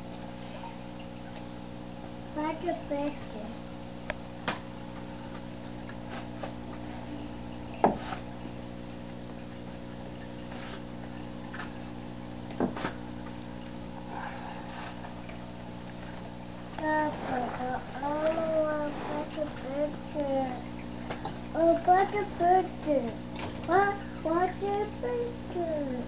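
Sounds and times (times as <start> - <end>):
aquarium pump humming: 0.0 - 26.0
water trickling: 0.0 - 26.0.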